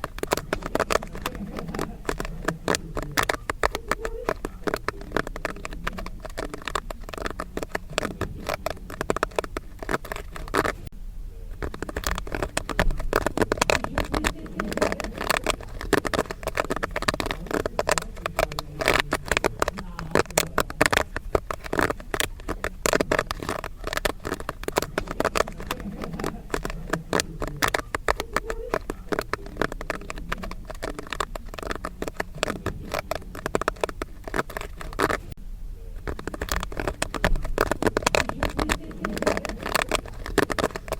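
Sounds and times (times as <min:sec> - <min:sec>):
popcorn popping: 0:00.0 - 0:40.9.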